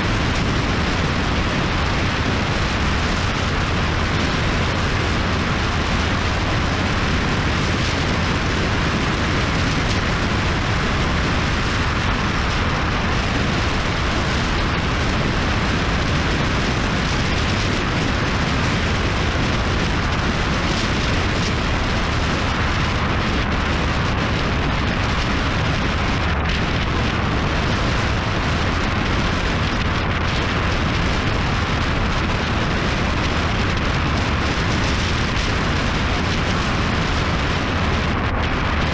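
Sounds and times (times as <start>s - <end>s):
motorcycle engine drone: 0.0s - 38.9s
wind rush on microphone: 0.0s - 38.9s.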